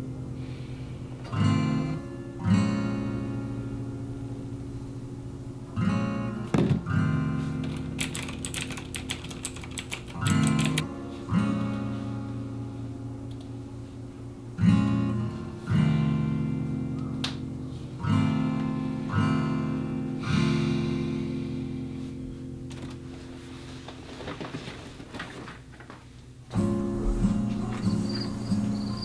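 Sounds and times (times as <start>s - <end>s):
acoustic guitar strumming chords: 0.0s - 8.0s, 10.2s - 23.2s, 26.5s - 29.0s.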